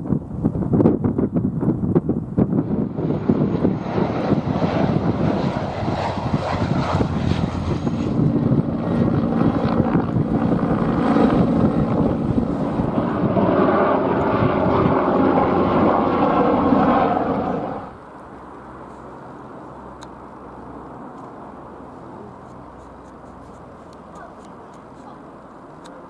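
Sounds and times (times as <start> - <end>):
turboprop airliner passing overhead: 1.1 - 26.0
helicopters passing overhead: 2.2 - 26.0.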